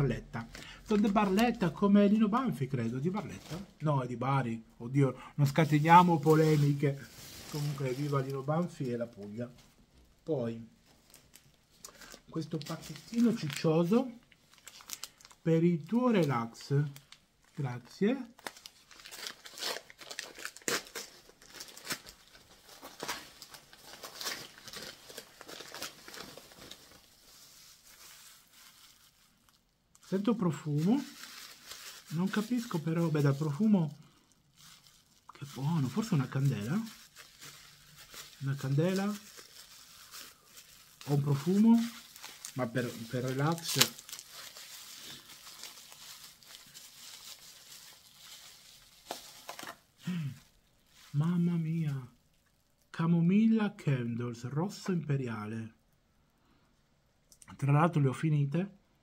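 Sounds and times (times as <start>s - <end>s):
wrapping paper crinkling and tearing: 0.0s - 3.8s, 5.4s - 9.5s, 10.8s - 52.9s.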